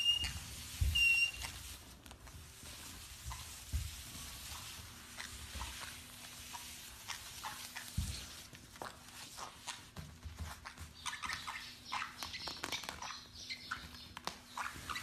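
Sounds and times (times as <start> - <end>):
faint light taps and scratches: 0.0 - 15.0.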